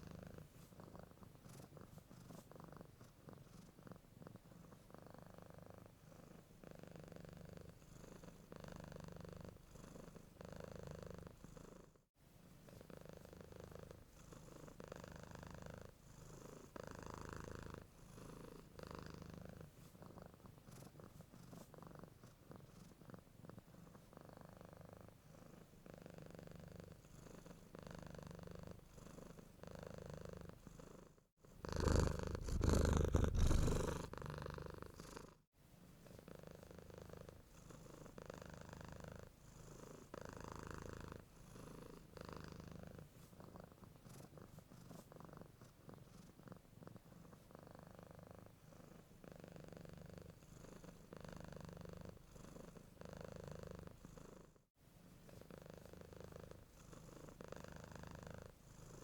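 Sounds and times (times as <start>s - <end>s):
cat purring: 0.0s - 12.0s, 12.6s - 59.0s.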